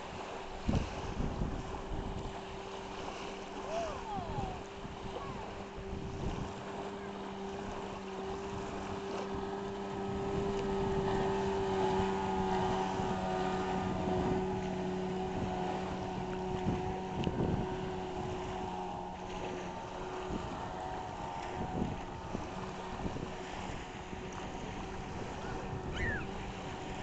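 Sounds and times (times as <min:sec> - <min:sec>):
outboard motor running: 0:00.0 - 0:27.0
wind rumble on microphone: 0:00.0 - 0:27.0.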